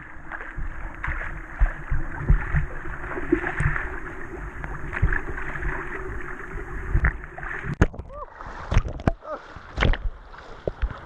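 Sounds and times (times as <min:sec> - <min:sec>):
river water sloshing on camera: 0:00.0 - 0:11.0.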